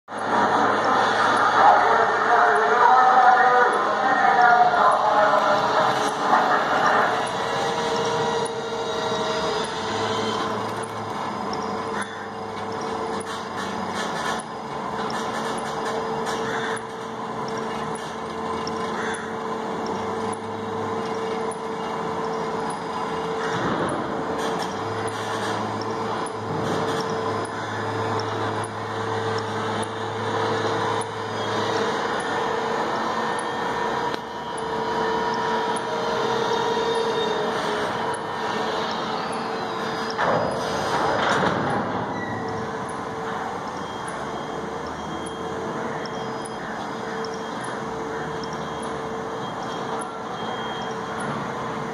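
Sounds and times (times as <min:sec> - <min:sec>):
constant whine: 0:00.0 - 0:51.9
machinery hum: 0:00.0 - 0:51.9
deep drone: 0:00.1 - 0:51.9.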